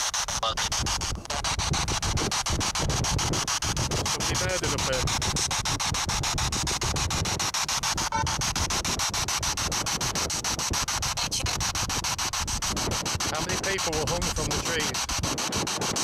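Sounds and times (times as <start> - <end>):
pulsing static hiss: 0.0 - 16.0
snatch of pitched sound: 0.0 - 16.0.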